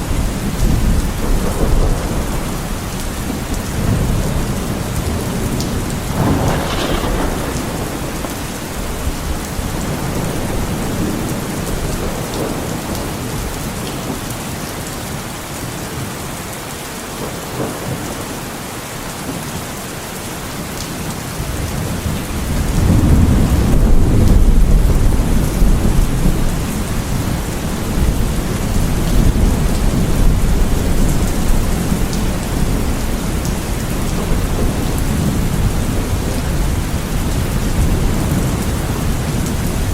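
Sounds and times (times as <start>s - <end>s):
rolling thunder: 0.0s - 14.2s, 21.5s - 39.9s
heavy rain falling: 0.0s - 39.9s.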